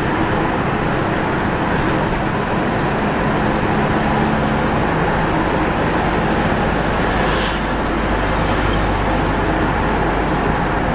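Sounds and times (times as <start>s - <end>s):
engine and road noise: 0.0s - 10.9s.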